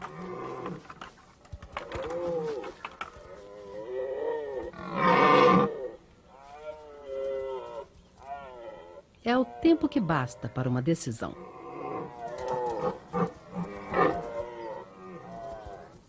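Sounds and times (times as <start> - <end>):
deer stags roaring: 0.0 - 1.0, 1.8 - 10.7, 11.3 - 16.0.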